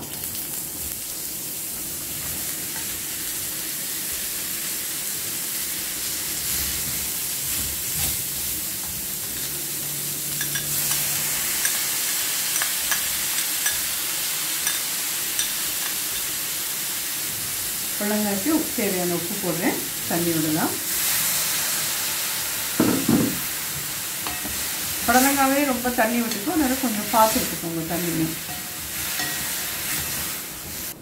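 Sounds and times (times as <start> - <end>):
vegetables sizzling in a pan: 0.0 - 31.0.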